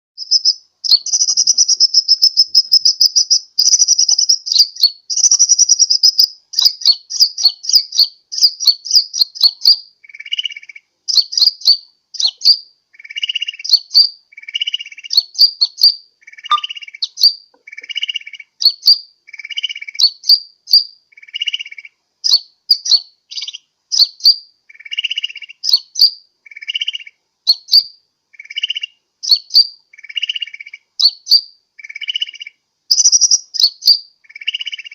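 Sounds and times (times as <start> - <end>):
bird trilling and chirping: 0.2 - 27.8, 28.4 - 34.9.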